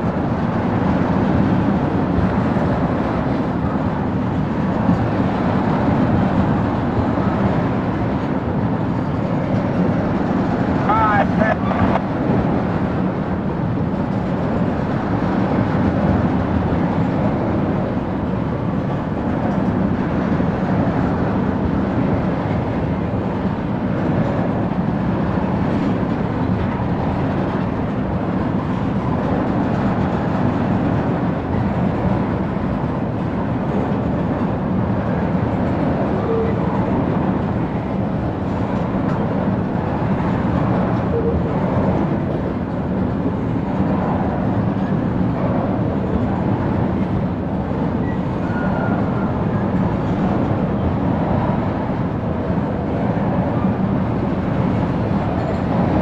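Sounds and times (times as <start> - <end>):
steel wheels rolling on rails: 0.0 - 11.0, 11.6 - 56.0.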